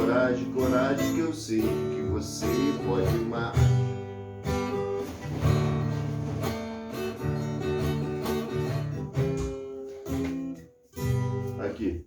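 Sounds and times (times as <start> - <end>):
acoustic guitar strummed and picked: 0.0 - 12.0.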